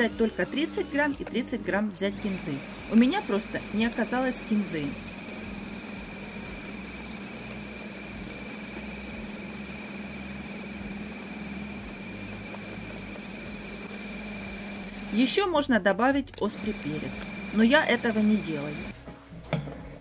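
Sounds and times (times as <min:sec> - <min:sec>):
electric meat grinder humming: 0:00.0 - 0:15.5, 0:16.4 - 0:19.0.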